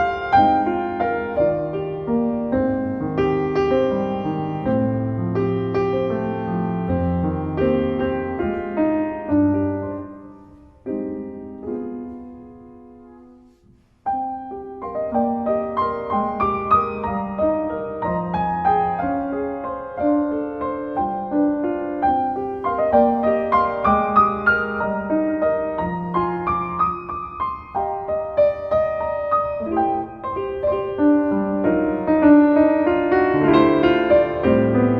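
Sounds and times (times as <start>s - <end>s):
solo piano music: 0.0s - 34.9s.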